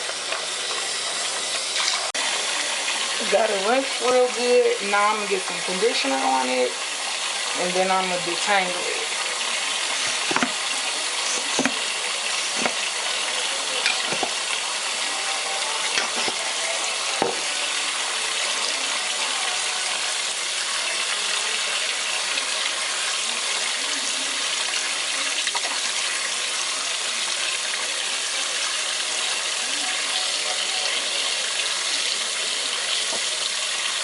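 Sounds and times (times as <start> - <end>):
faucet water running: 0.0 - 34.0.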